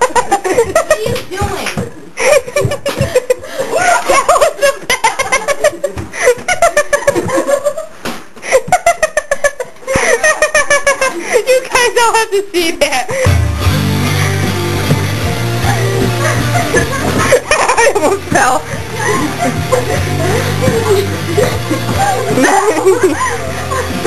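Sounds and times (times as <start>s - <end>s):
people laughing hard: 0.0s - 1.2s, 2.2s - 11.6s, 15.2s - 24.0s.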